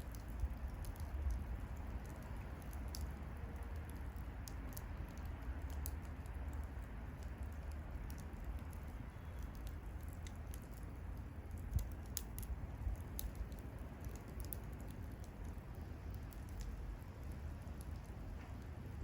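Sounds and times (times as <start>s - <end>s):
low steady rumble: 0.0s - 19.0s
wood bonfire crackling: 0.0s - 19.0s.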